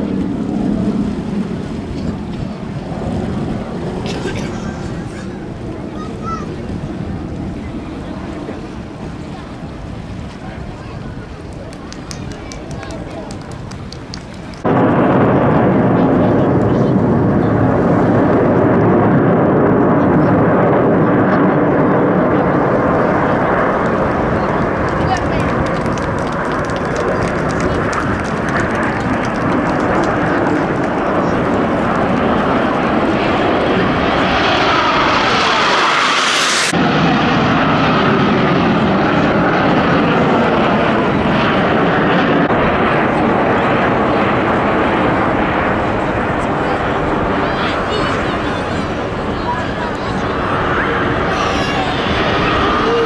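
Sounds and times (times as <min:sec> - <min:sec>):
jets flying over: 0:00.0 - 0:53.0.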